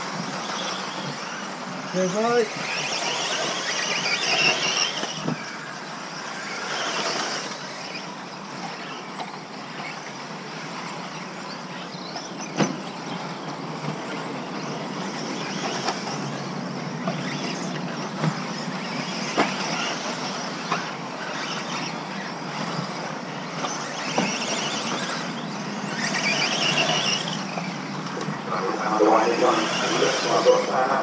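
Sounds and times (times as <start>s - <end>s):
high electric motor whine: 0.0s - 31.0s.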